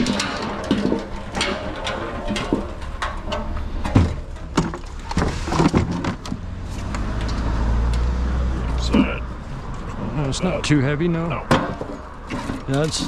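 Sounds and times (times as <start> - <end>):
low engine rumble: 0.0 - 13.0
scrap metal knocking and clanking: 0.0 - 13.0.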